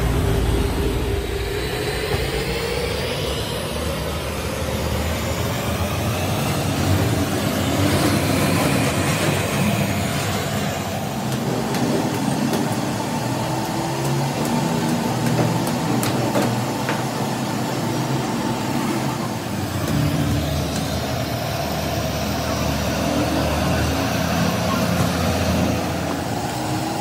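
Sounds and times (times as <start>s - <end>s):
gas burner roaring: 0.0s - 27.0s.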